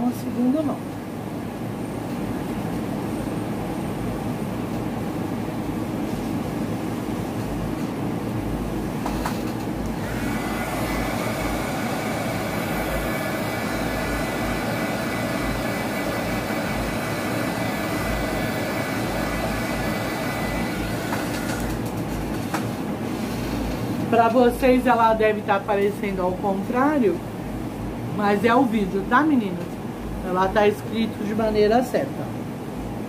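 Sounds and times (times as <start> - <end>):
heat gun fan whine: 0.0 - 33.0.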